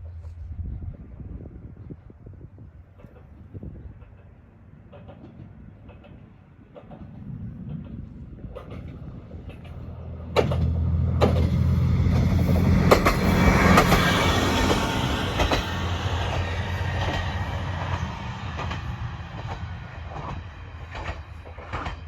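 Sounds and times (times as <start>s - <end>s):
diesel railcar engine droning: 0.0s - 22.0s
wheels clacking over rail joints: 3.0s - 22.0s.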